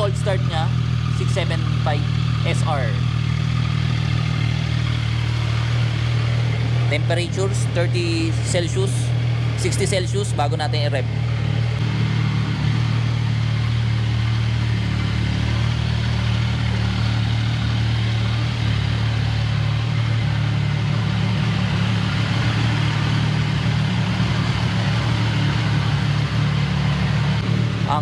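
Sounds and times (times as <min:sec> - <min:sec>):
engine revving: 0:00.0 - 0:28.0
motorcycle engine idling: 0:00.0 - 0:28.0.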